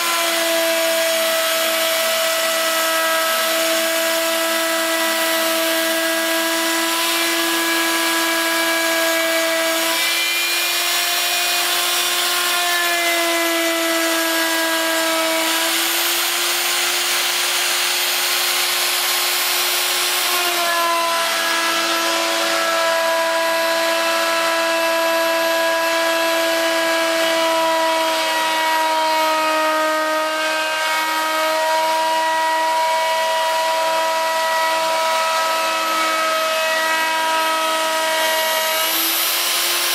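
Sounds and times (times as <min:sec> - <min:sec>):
bit milling wood: 0:00.0 - 0:39.9
router spindle motor whine: 0:00.0 - 0:39.9.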